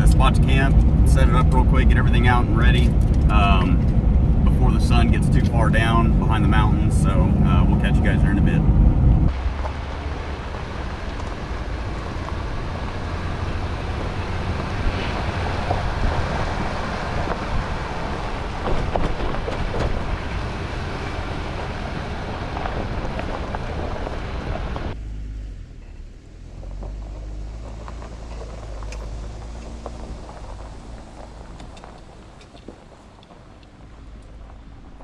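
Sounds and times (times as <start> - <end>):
low engine hum: 0.0 - 35.0
road and tyre noise: 0.0 - 35.0.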